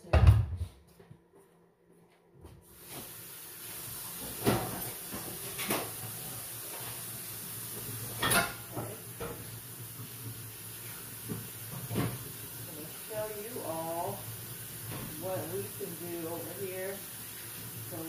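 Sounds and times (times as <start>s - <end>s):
steady hiss: 2.7s - 18.0s.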